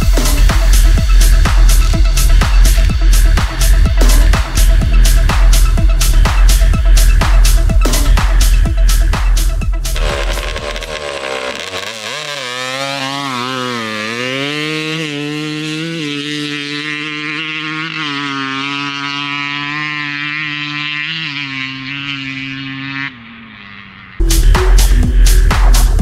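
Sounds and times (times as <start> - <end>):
dirt bike engine: 0.0 - 26.0.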